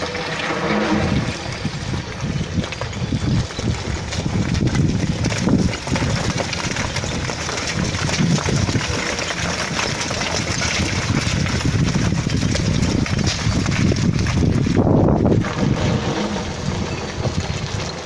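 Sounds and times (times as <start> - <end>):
diesel engine running: 0.0 - 18.0
loud rushing rattling noise: 0.0 - 18.0.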